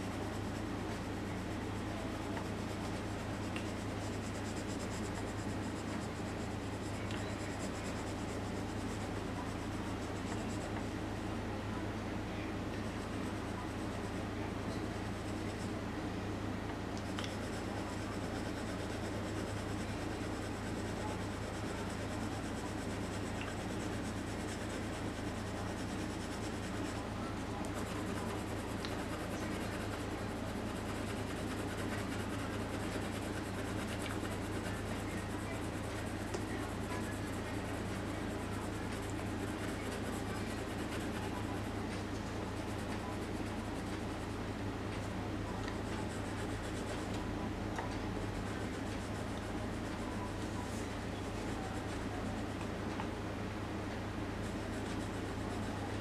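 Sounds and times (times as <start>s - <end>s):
pencil scratching on paper: 0.0s - 11.0s, 12.8s - 15.8s, 17.0s - 44.4s, 45.7s - 47.2s, 47.9s - 52.6s, 54.3s - 56.0s
steady low hum: 0.0s - 56.0s.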